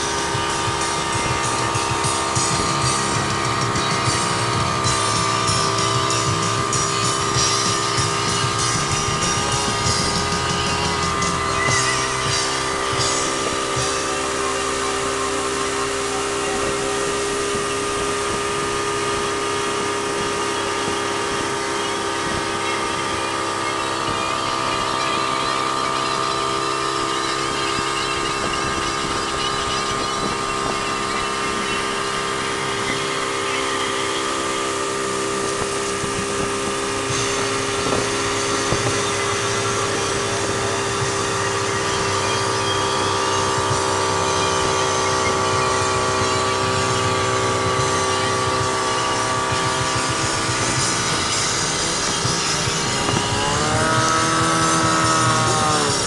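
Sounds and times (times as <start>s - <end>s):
outboard motor running: 0.0s - 56.0s
rush of wind and water: 0.0s - 56.0s.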